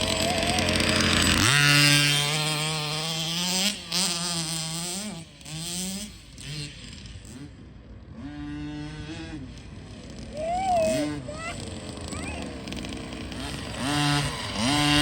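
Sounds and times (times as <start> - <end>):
small rc car engine buzzing: 0.0 - 7.6, 8.3 - 15.0.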